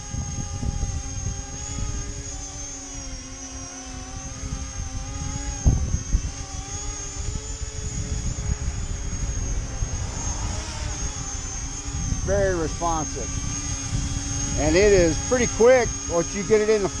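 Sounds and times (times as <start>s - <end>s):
electric propellers whining: 0.0s - 17.0s
wind buffeting microphone: 0.0s - 17.0s.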